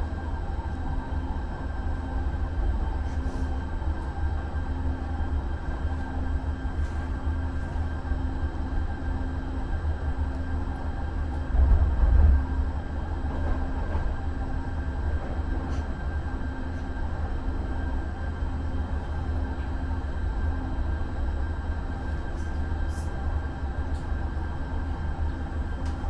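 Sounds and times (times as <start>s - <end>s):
light rail car rumbling: 0.0s - 26.0s.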